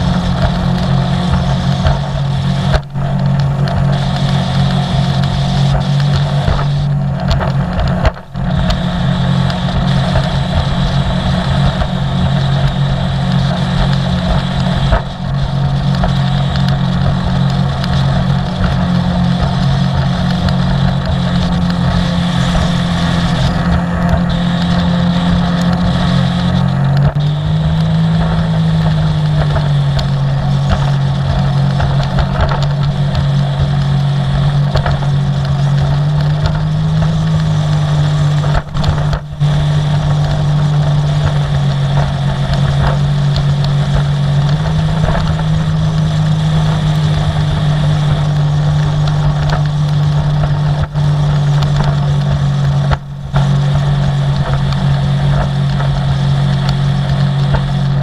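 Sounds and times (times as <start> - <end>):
water rushing: 0.0 - 58.0
watercraft engine running: 0.0 - 58.0
wind: 0.0 - 58.0.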